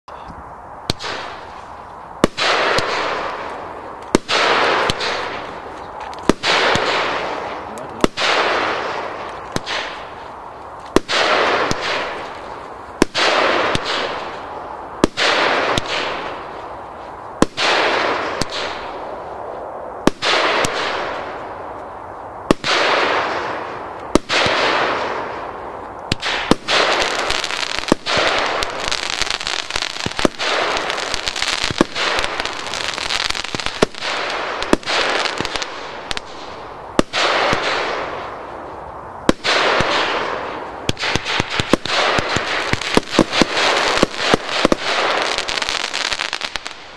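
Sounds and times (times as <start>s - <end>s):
firework cake bangs and hiss: 0.8s - 21.6s, 22.4s - 46.9s.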